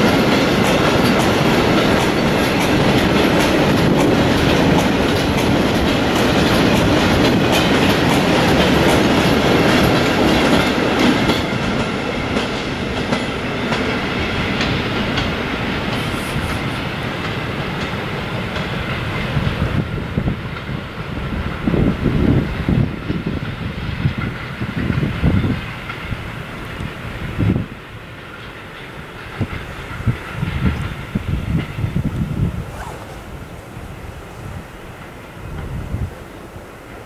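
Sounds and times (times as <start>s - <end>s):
wheels clicking over rail joints: 0.0s - 32.4s
freight train rolling past: 0.0s - 37.0s.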